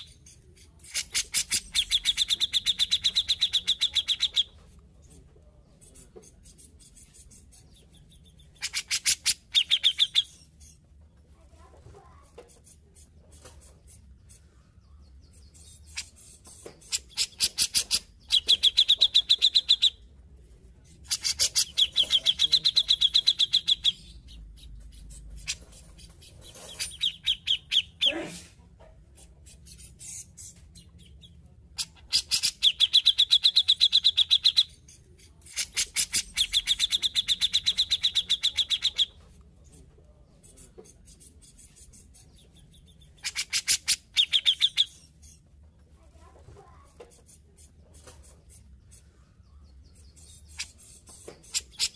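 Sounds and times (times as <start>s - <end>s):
bird singing chattering notes: 0.0s - 5.1s, 5.7s - 10.9s, 12.6s - 20.1s, 20.8s - 28.2s, 29.2s - 45.6s, 47.2s - 51.9s.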